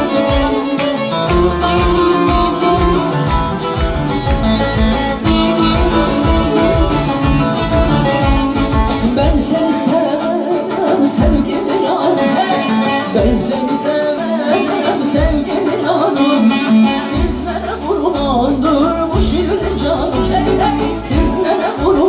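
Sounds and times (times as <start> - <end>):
woman singing into a microphone: 0.0 - 3.4, 5.2 - 22.0
live band playing folk music: 0.0 - 22.0.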